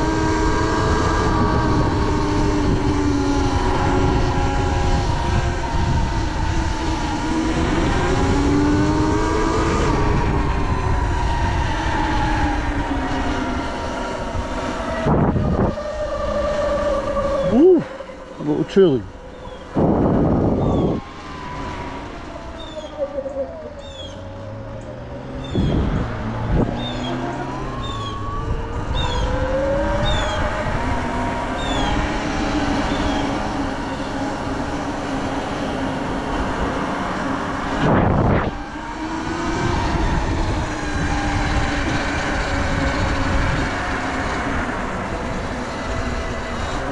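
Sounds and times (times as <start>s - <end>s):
electric motor whine: 0.0s - 18.4s, 19.1s - 46.9s
wind rumble on microphone: 0.0s - 46.9s.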